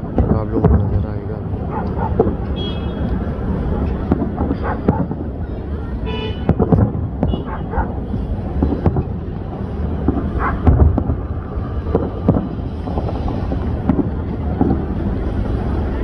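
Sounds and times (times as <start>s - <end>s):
fireworks booming and cracking: 0.0s - 16.0s
wind rumble on microphone: 0.0s - 16.0s.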